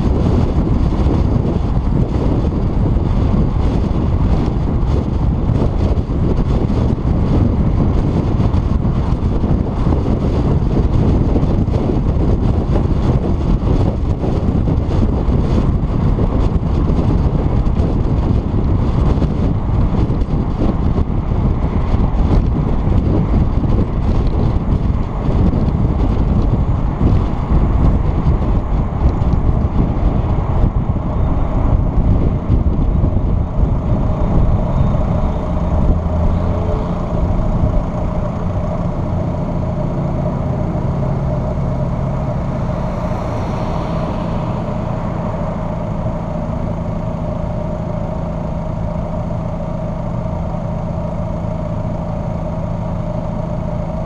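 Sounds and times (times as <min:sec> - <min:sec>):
car road noise: 0:00.0 - 0:54.0
wind buffeting microphone: 0:00.0 - 0:54.0.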